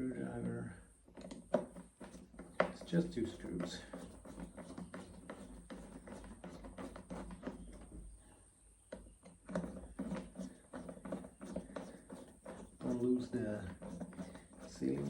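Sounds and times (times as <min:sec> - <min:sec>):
small clicks and scrapes: 0:00.3 - 0:08.2, 0:08.8 - 0:15.0.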